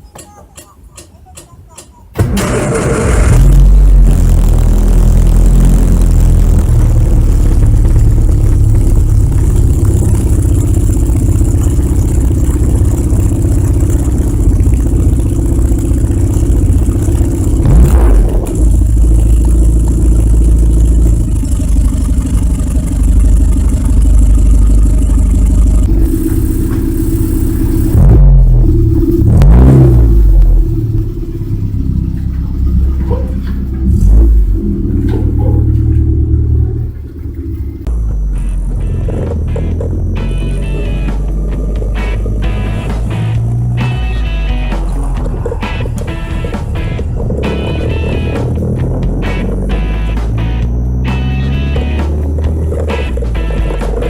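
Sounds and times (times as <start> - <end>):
engine low rumble: 2.2 - 54.0.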